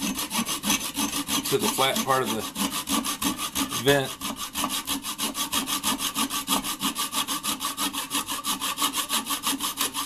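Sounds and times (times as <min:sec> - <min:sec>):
hand saw rasping through wood: 0:00.0 - 0:10.0.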